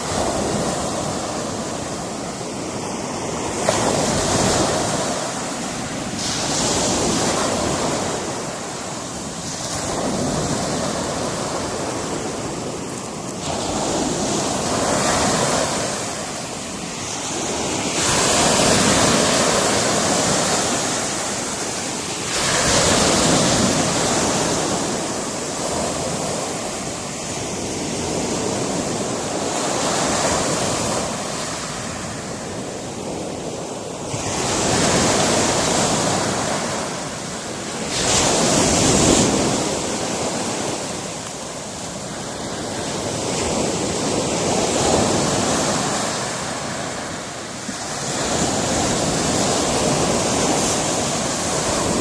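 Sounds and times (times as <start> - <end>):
waves breaking on rocky shore: 0.0 - 52.0.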